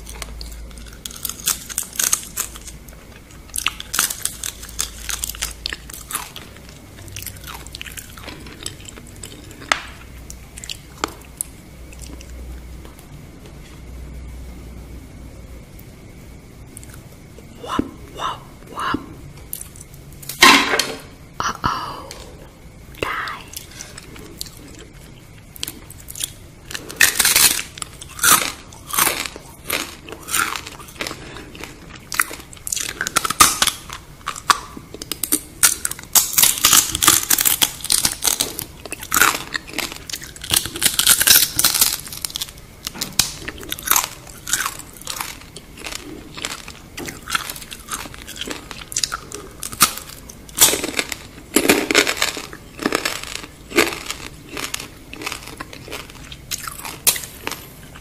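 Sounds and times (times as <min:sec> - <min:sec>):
person chewing crunchy food: 0:00.0 - 0:13.8, 0:16.7 - 0:20.4, 0:21.7 - 0:58.0.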